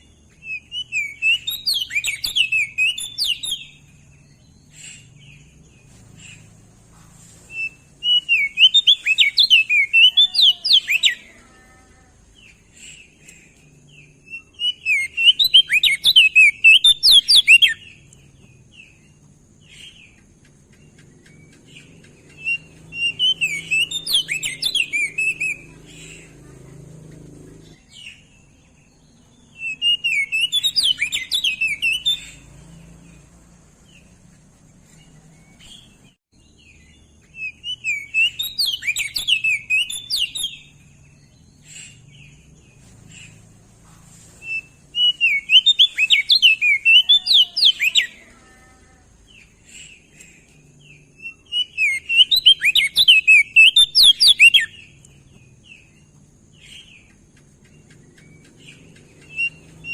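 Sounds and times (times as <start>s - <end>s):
bird twittering chirps: 0.0s - 11.6s, 12.2s - 59.9s.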